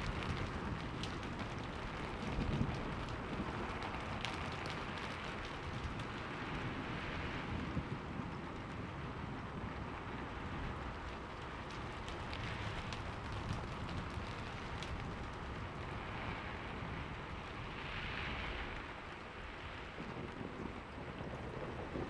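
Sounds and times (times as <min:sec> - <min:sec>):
low continuous rumble: 0:00.0 - 0:22.0
steady rain falling: 0:00.0 - 0:22.0.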